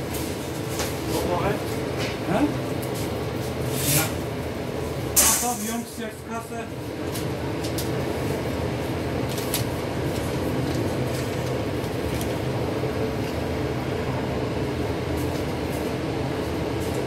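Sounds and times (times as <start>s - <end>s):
kitchen machine rumble and hiss: 0.0s - 17.0s.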